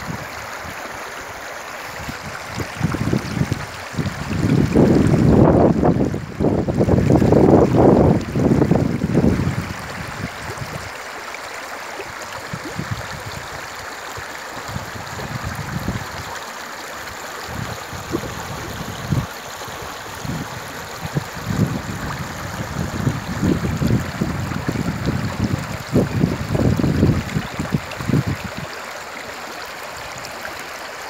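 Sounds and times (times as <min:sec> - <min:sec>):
river water rippling over stones: 0:00.0 - 0:31.0.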